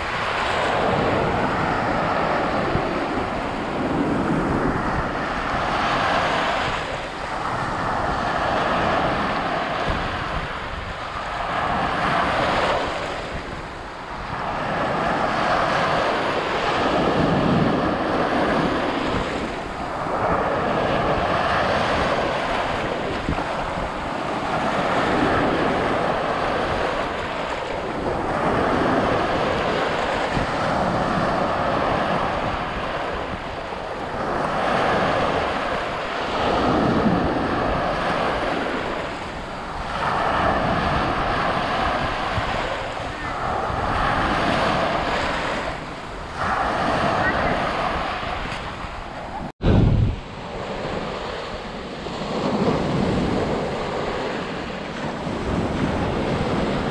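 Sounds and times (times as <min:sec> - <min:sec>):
sea waves breaking: 0:00.0 - 0:56.9
wind rumbling on microphone: 0:00.0 - 0:56.9.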